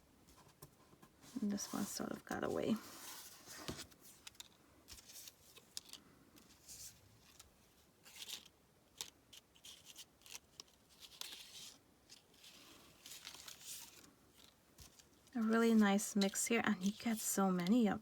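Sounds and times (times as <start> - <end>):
paper rustling: 0.3 - 18.0
crinkly packaging: 1.3 - 18.0.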